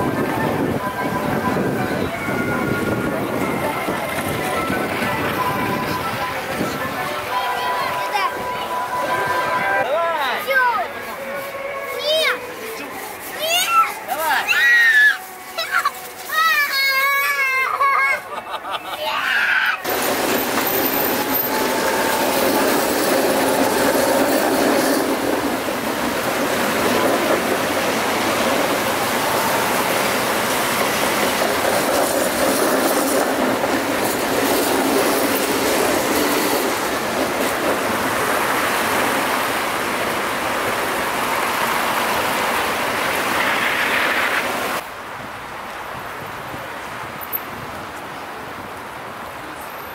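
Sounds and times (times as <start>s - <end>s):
passing car traffic: 0.0s - 14.4s, 19.8s - 49.9s
tram wheels rumbling on rails: 0.0s - 49.9s.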